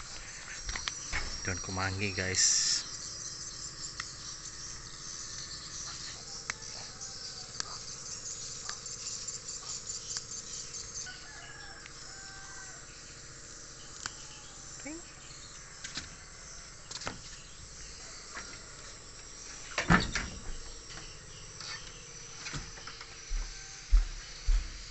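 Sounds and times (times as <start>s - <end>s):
insect chirring: 0.0s - 24.9s.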